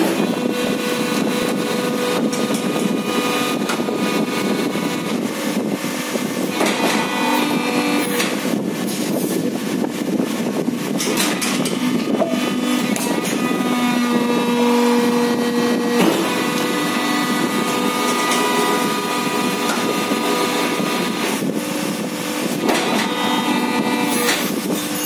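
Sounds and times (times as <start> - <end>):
steady hydraulic hum: 0.0 - 25.0.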